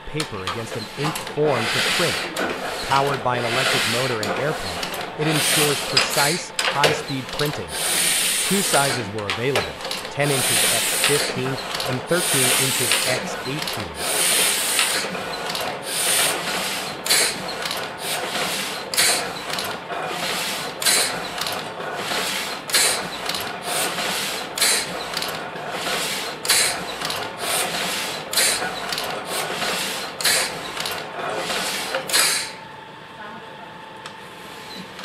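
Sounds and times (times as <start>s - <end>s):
printing press clacking and rattling: 0.0s - 32.6s.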